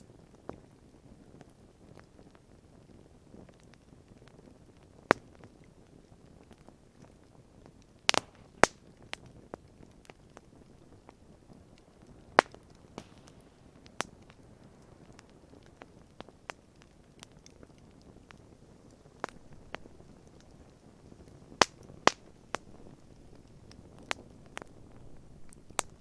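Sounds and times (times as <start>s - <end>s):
faint low hiss: 0.0s - 26.0s
wood fire crackling and popping: 0.0s - 26.0s.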